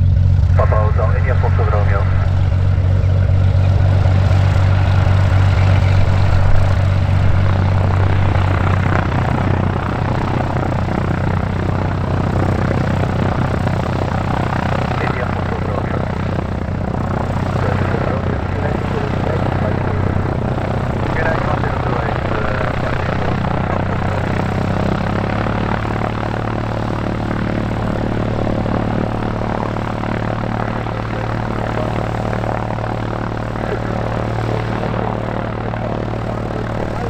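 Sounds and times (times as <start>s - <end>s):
propeller aircraft engine running: 0.0s - 37.0s.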